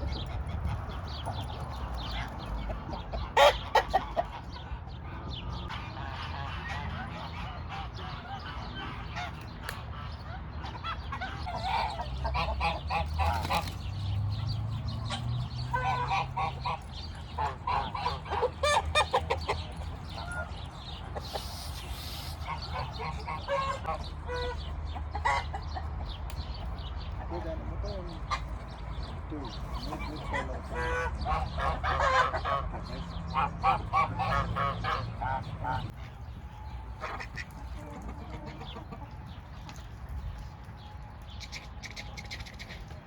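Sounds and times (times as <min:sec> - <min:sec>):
ducks and chickens calling: 0:00.0 - 0:43.0.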